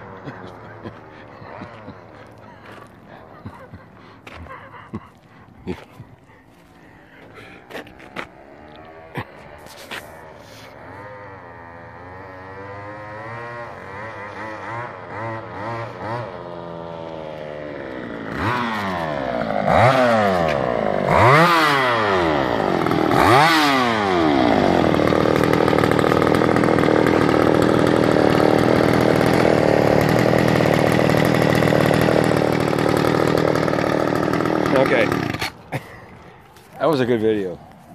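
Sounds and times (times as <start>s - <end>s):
small two-stroke engine revving: 0.0s - 37.9s.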